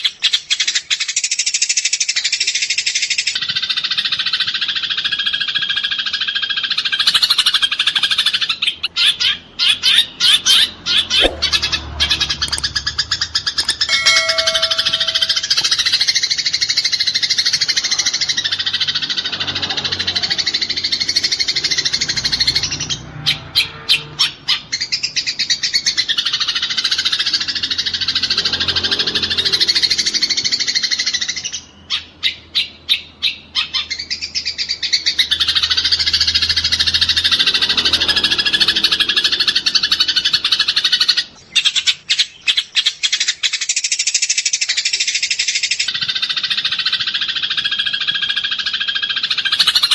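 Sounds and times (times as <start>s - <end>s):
sparrows chattering: 0.0s - 49.9s.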